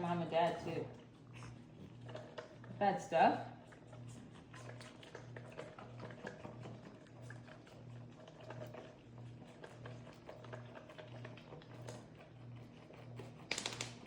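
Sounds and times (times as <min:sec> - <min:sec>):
goats suckling from bottles: 0:00.0 - 0:14.0.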